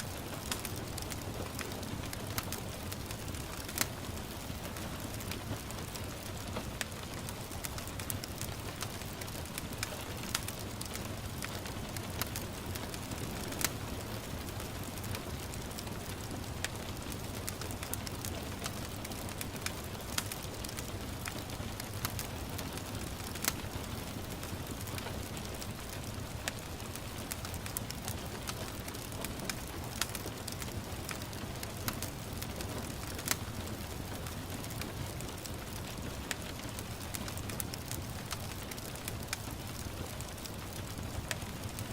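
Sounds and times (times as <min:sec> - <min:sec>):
gentle rain hiss: 0:00.0 - 0:41.9
wood fire crackling and popping: 0:00.0 - 0:41.9.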